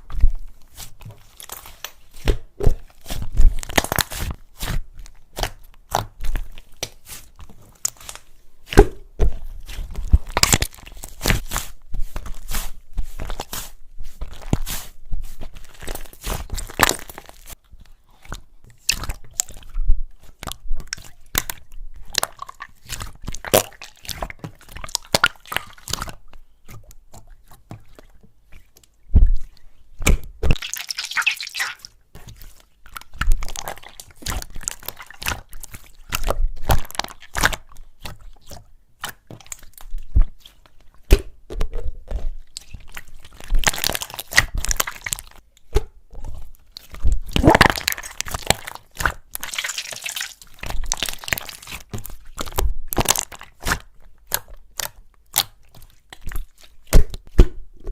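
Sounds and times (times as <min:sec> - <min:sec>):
slime squishing by hand: 0:00.0 - 0:57.9.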